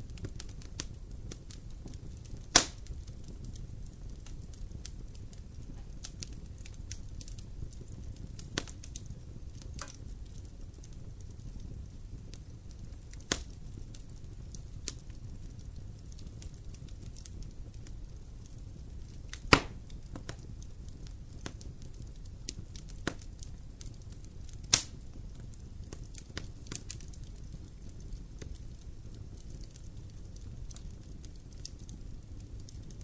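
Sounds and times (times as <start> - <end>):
fire low rumble: 0.0 - 33.0
sharp pops of fire: 0.0 - 33.0
wood fire crackling: 0.0 - 33.0.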